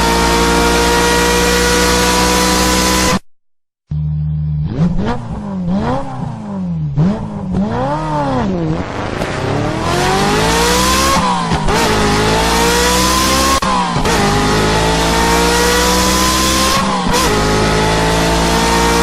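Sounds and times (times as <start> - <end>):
car engine revving and accelerating: 0.0 - 3.2, 4.0 - 19.0.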